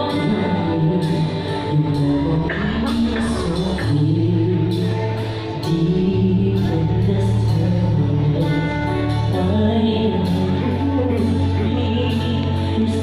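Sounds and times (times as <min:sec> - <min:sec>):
instrumental backing with bass: 0:00.0 - 0:13.0
person singing: 0:00.0 - 0:13.0.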